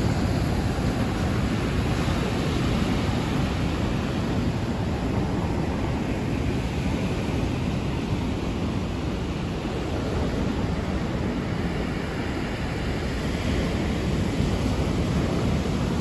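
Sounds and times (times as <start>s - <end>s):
stormy surf breaking on beach: 0.0s - 16.0s.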